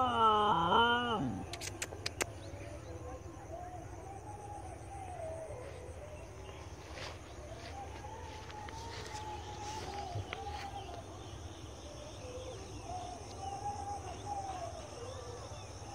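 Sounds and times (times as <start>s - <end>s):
faint long wavering call: 2.5s - 15.9s.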